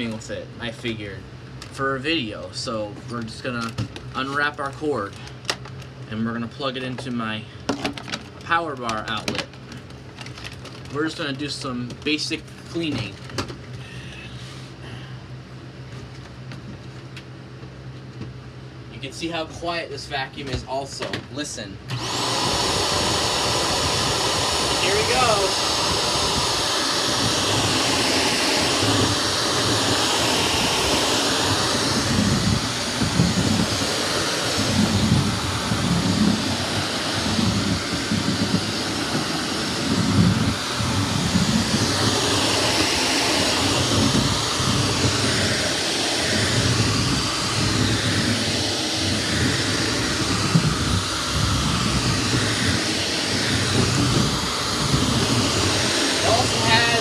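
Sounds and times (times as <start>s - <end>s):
vacuum cleaner running: 0.0s - 14.8s, 18.9s - 57.0s.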